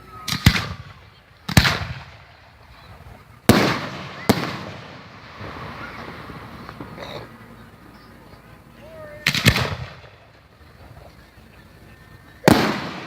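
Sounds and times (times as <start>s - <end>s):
fireworks bangs: 0.1s - 13.0s.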